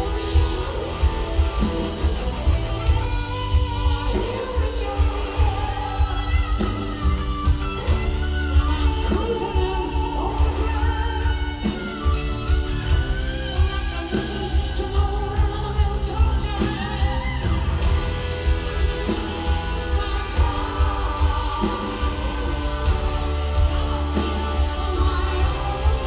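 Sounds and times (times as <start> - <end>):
drum kit: 0.0 - 26.0
person singing: 0.0 - 26.0.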